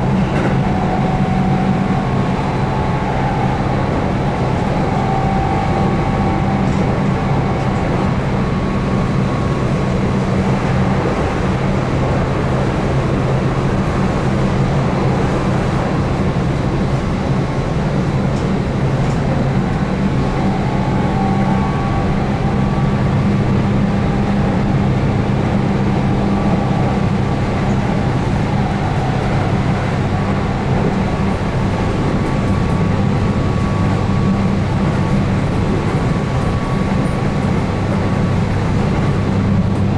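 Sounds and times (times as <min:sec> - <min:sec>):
train traction motor hum: 0:00.0 - 0:39.9
wheels rumbling on rails: 0:00.0 - 0:39.9.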